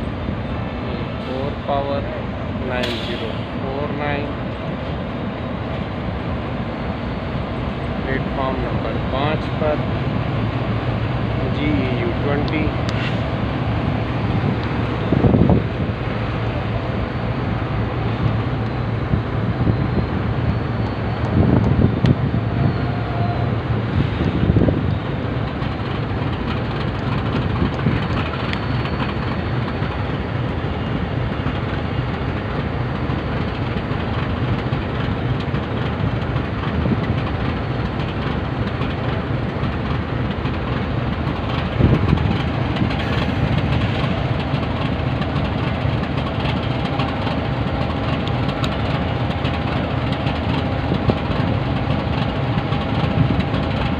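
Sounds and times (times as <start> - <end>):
locomotive engine rumbling: 0.0 - 53.9.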